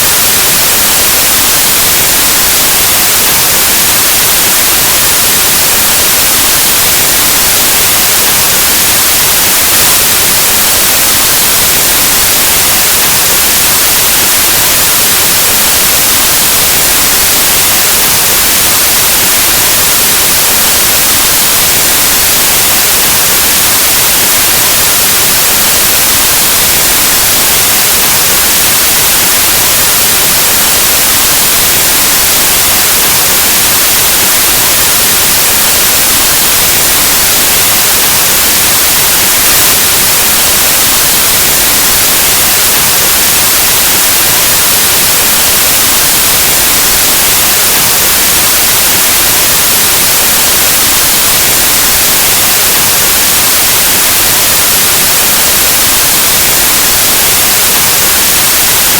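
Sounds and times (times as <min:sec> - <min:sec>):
white noise static hiss: 0:00.0 - 0:58.9.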